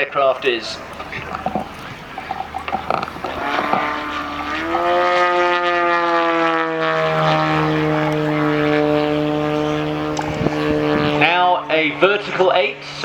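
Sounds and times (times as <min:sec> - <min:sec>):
model aircraft propeller engine drone: 0:00.0 - 0:13.0.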